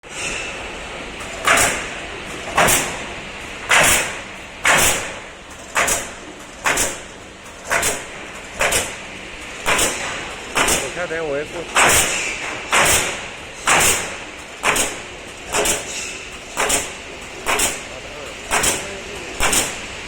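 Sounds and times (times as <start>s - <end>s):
steady machine hum: 0.0s - 20.0s
pneumatic nailer shots with hiss: 0.1s - 20.0s.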